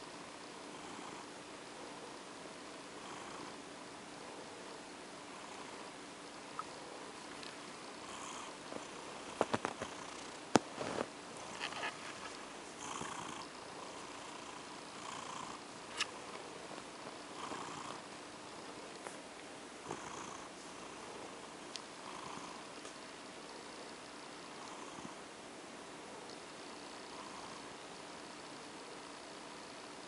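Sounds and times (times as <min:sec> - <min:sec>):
cat purring: 0:00.5 - 0:02.2, 0:02.9 - 0:04.7, 0:05.3 - 0:19.2, 0:19.8 - 0:22.9, 0:23.5 - 0:25.2, 0:26.0 - 0:28.1.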